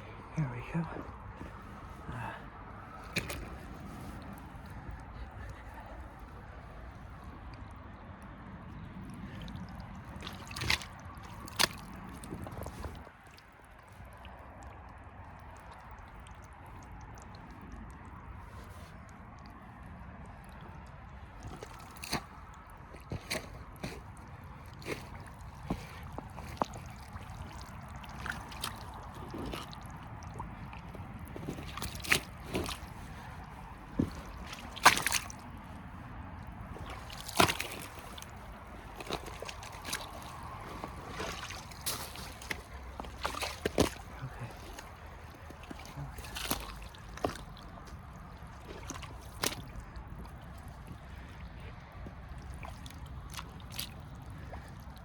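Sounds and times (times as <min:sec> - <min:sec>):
boots squelching through mud: 0:01.2 - 0:07.6, 0:08.5 - 0:14.8, 0:15.4 - 0:55.0.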